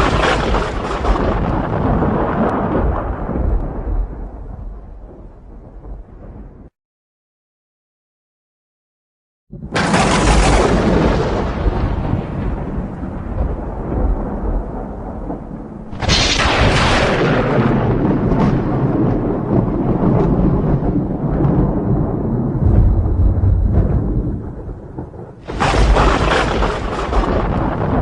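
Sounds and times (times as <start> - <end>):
thunderclaps with rolling rumble: 0.0 - 6.7, 9.5 - 28.0.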